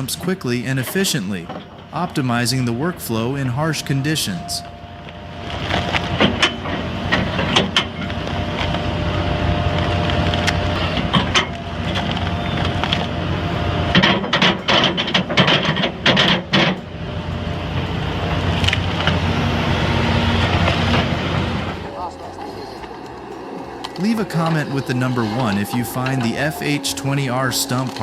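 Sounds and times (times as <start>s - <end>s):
excavator running: 0.0s - 28.0s.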